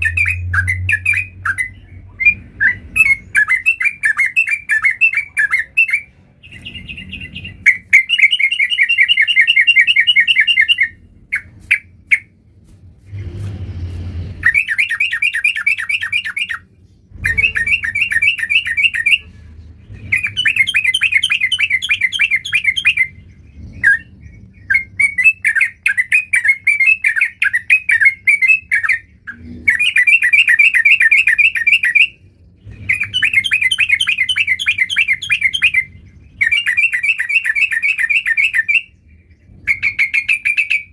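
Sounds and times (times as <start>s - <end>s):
bird chattering song: 0.0s - 12.4s, 14.4s - 40.9s.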